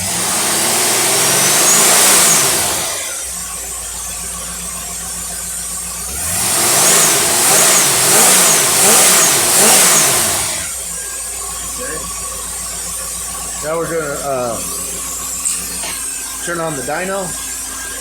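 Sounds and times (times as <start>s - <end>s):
engine revving and idling: 0.0s - 18.0s.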